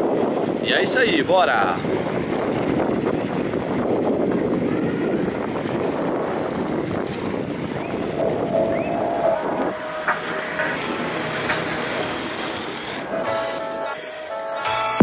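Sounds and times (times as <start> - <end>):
wind buffeting microphone: 0.0 - 13.4
skate wheels rolling on asphalt: 0.0 - 14.0.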